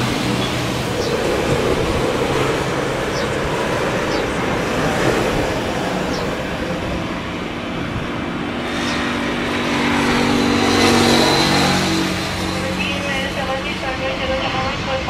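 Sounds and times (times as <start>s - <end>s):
gusty wind noise: 0.0s - 15.0s
high whine: 0.0s - 15.0s
jet engines rushing: 0.0s - 15.0s.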